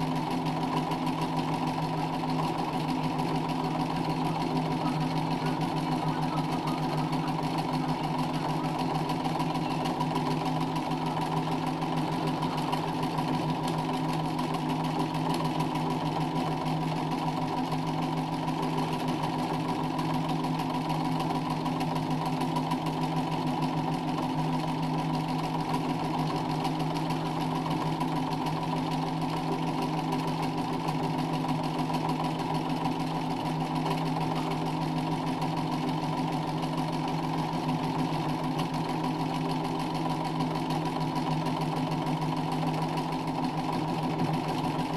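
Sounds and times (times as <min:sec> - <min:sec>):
sewing machine running: 0:00.0 - 0:44.9.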